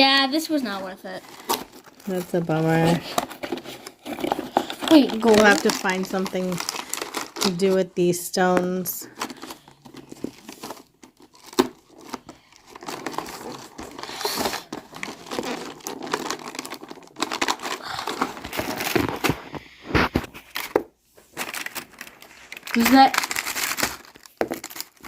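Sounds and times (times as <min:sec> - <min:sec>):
plastic and card crinkling: 0:00.0 - 0:25.0.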